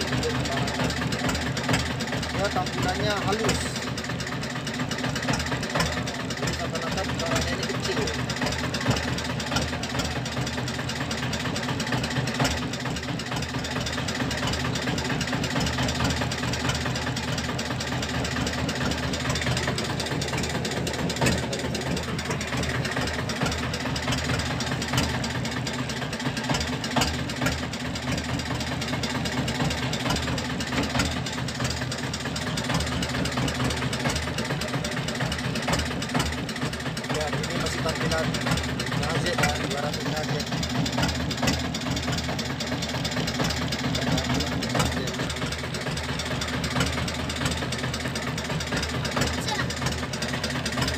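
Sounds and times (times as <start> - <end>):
boat engine idling: 0.0 - 50.9.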